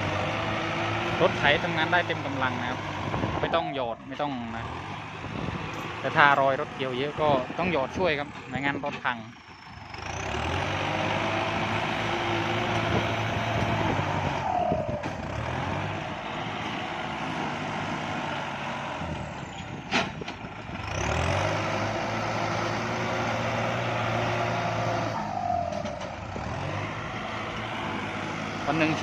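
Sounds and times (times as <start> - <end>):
diesel tractor engine under load: 0.0 - 29.0.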